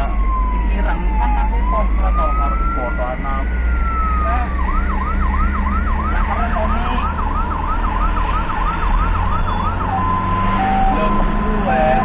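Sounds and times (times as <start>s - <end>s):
ambulance siren wailing and yelping: 0.0s - 12.0s
low engine and road rumble: 0.0s - 12.0s.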